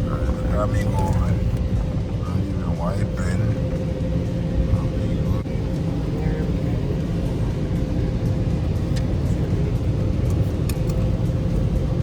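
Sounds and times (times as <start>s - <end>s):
car rumbling: 0.0s - 12.0s.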